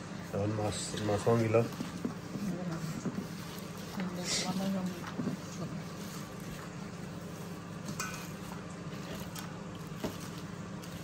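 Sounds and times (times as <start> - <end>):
food squishing: 0.3 - 11.0.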